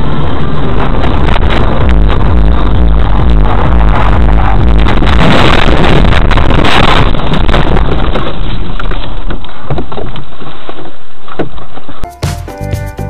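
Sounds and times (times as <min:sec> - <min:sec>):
distorted vehicle and wind rumble: 0:00.0 - 0:12.0.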